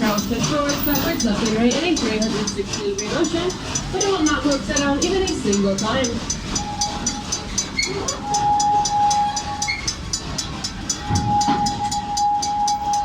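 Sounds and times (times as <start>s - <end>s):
crossing bell ringing: 0.0s - 13.0s
steady high tone: 0.0s - 13.0s
train passing: 0.0s - 13.0s.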